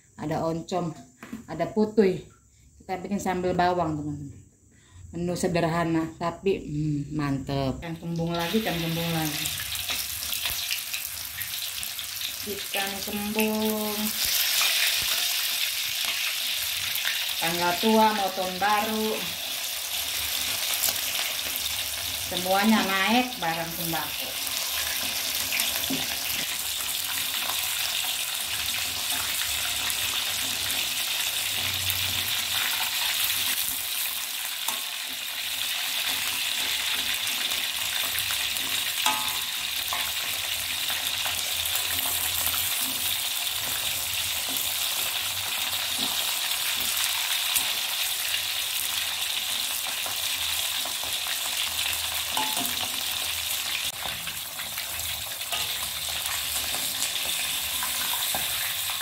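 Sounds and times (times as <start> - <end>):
fish deep-frying in oil: 7.8 - 59.0.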